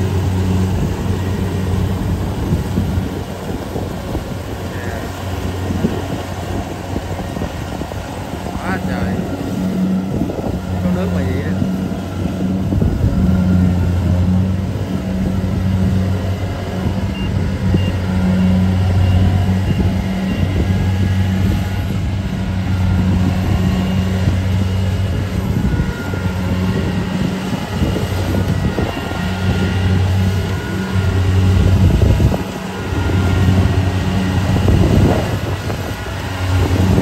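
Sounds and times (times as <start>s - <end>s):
combine harvester diesel engine: 0.0s - 37.0s.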